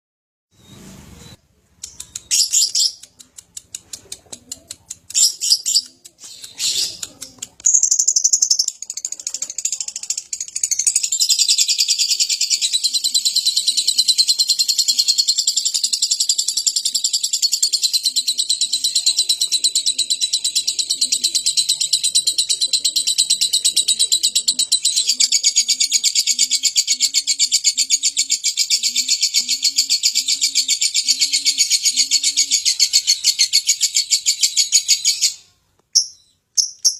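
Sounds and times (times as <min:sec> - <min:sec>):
lovebird chirping and chattering trill: 0:01.8 - 0:36.9.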